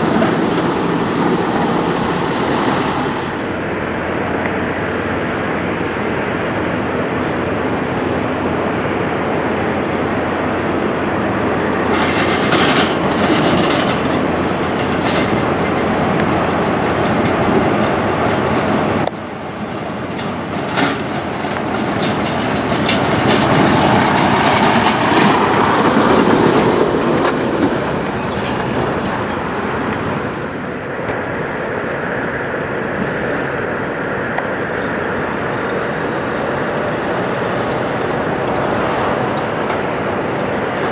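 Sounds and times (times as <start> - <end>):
trailers clicking and rattling: 0.0 - 31.3, 35.1 - 40.9
diesel truck engine running: 0.0 - 40.9.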